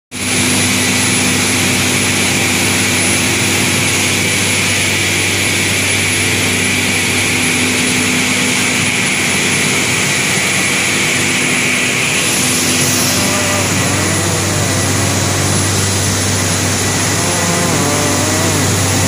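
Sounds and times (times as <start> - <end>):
machine hum: 0.2 - 19.0
loud rush of air: 0.3 - 19.0.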